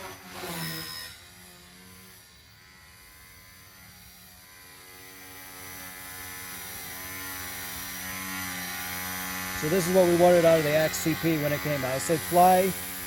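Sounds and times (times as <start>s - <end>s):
rc helicopter motor and rotor whining: 0.0s - 13.0s.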